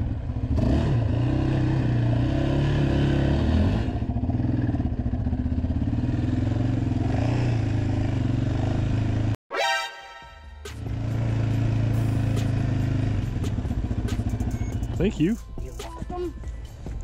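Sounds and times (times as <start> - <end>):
atv engine running: 0.0 - 9.4, 10.8 - 17.0.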